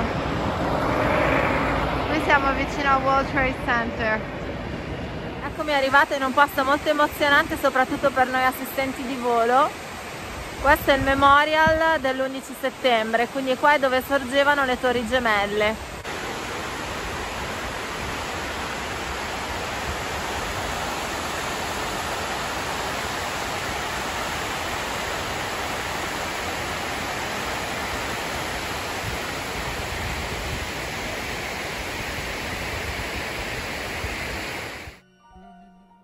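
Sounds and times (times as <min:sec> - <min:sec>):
water rushing down walls: 0:00.0 - 0:34.9.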